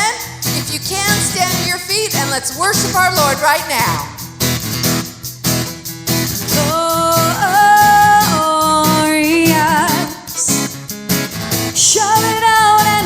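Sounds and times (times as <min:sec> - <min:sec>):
person singing with vibrato: 0:00.0 - 0:04.3, 0:06.5 - 0:13.0
guitar: 0:00.0 - 0:13.0
steady drum beat: 0:00.0 - 0:13.0.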